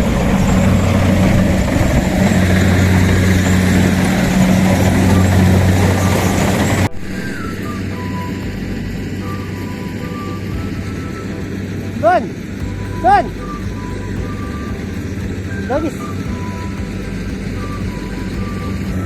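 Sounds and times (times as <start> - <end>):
harvester engine humming: 0.0 - 19.0.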